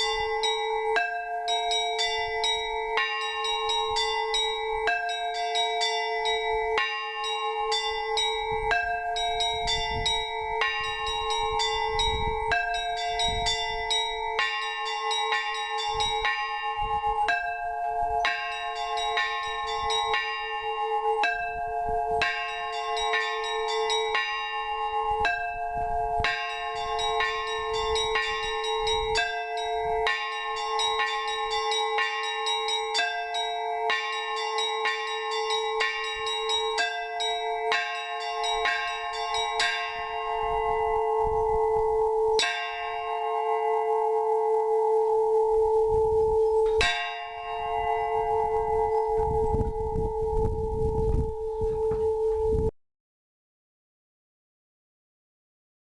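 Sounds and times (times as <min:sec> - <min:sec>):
bells ringing in rhythmic pattern: 0:00.0 - 0:52.7.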